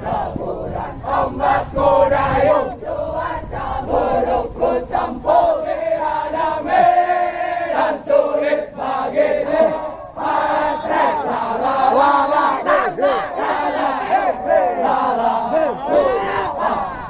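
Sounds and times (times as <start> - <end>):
group singing a jogging chant: 0.0 - 17.0.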